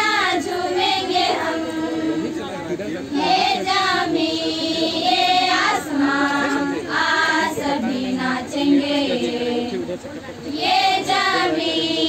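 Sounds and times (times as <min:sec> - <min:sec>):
girls choir singing: 0:00.0 - 0:12.0.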